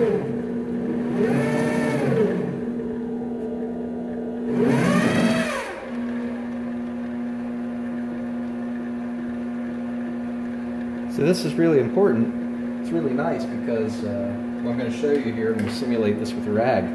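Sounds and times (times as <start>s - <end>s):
stepper motor whine: 0.0s - 15.0s
lathe running with steady whine: 0.0s - 16.9s.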